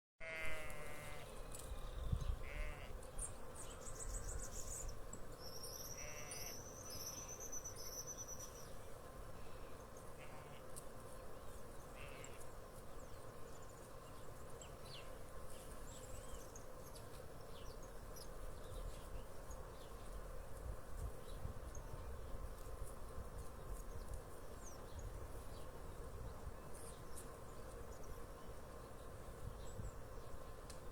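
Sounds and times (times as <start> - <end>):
insects buzzing: 0.2 - 30.9.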